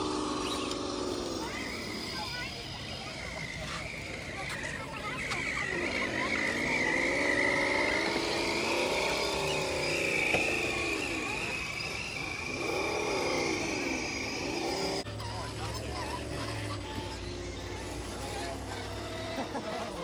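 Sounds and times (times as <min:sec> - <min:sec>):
electric motor whining: 0:00.0 - 0:20.0
steady higher whine: 0:00.0 - 0:20.0.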